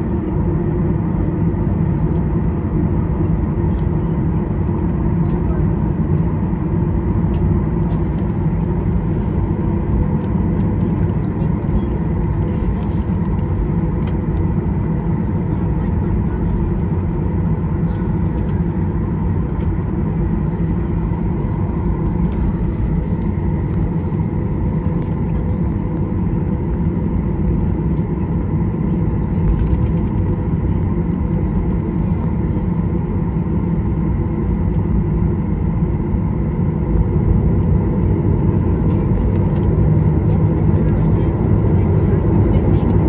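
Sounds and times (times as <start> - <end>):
aircraft cabin low rumble: 0.0 - 43.0.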